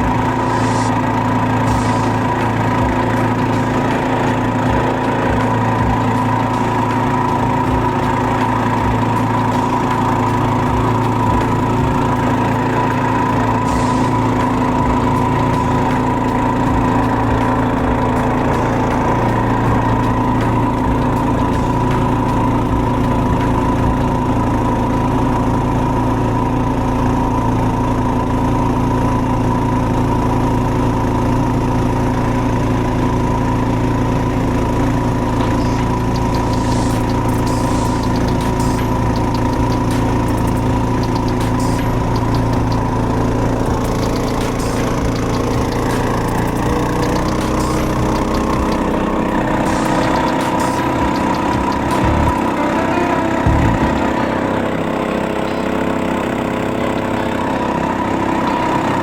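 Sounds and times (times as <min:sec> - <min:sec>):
boat motor running steadily: 0:00.0 - 0:59.0.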